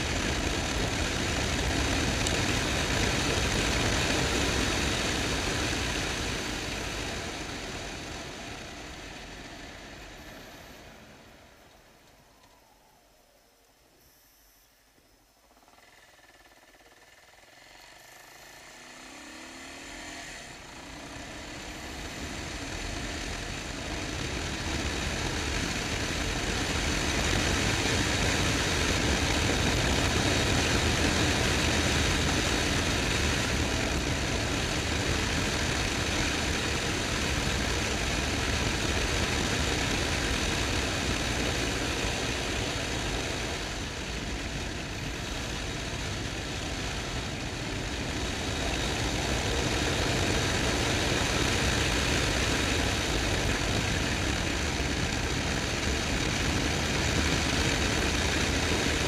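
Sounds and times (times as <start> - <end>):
motorcycle engine running: 0.0 - 12.7, 14.0 - 59.0
wind and road noise: 0.0 - 59.0.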